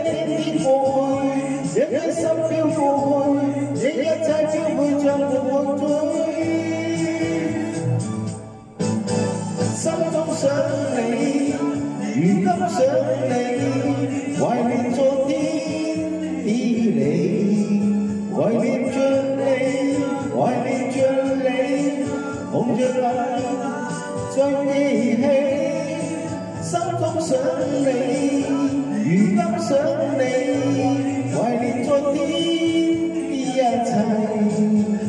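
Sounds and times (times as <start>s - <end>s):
backing track: 0.0s - 35.0s
man singing pop song: 0.0s - 35.0s.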